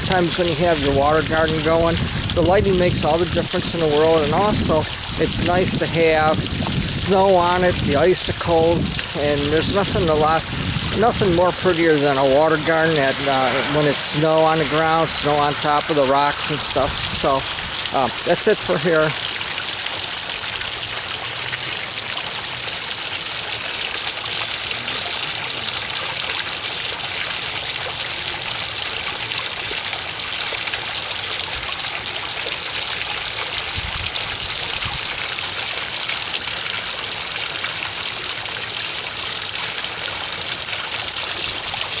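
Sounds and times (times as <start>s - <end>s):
waterfall splashing into pond: 0.0s - 42.0s.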